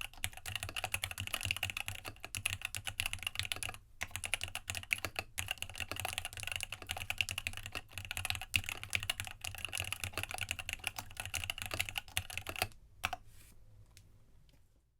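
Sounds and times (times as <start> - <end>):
fast mechanical keyboard typing: 0.0 - 13.2.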